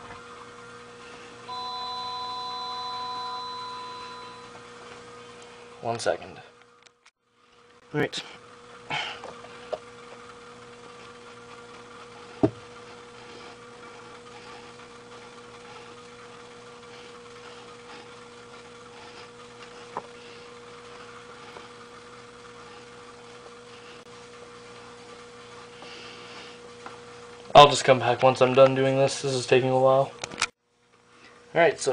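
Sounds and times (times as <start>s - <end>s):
steady electrical hum: 0.0s - 31.9s.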